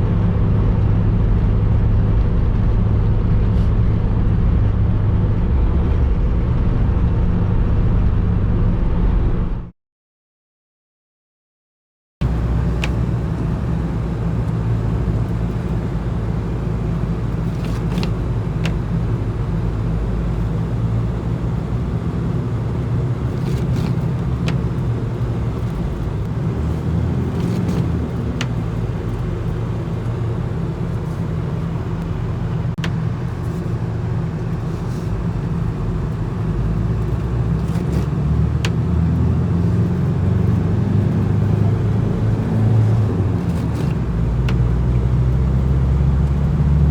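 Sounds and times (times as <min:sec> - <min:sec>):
diesel engine droning: 0:00.0 - 0:09.7, 0:12.2 - 0:46.9.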